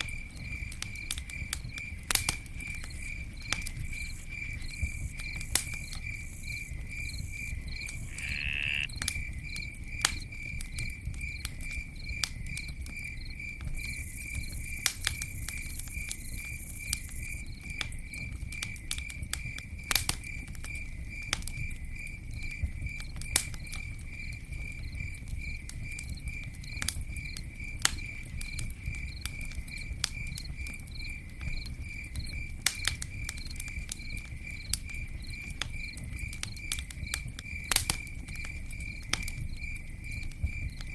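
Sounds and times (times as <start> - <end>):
campfire crackling and popping: 0.0 - 40.9
cricket chirping: 0.0 - 40.9.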